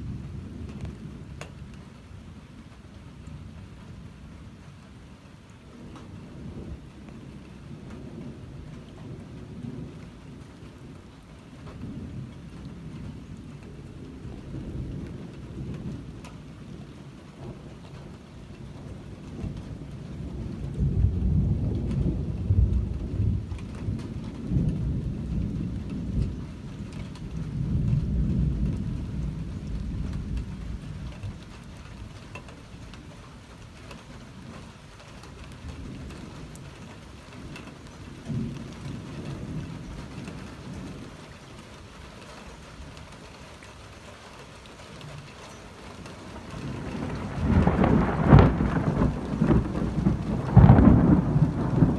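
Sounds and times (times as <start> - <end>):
thunder rumbling: 5.8 - 41.9, 46.0 - 51.9.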